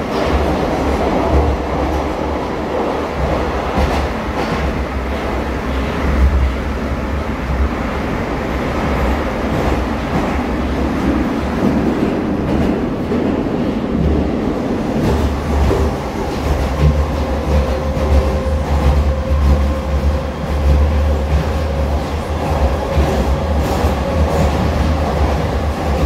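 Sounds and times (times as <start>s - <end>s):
train rumbling in tunnel: 0.0s - 26.0s.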